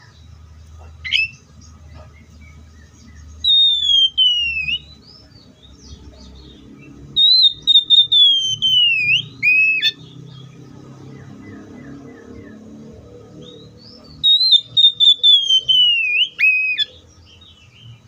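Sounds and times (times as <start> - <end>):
bird singing whistled notes: 2.2 - 18.0.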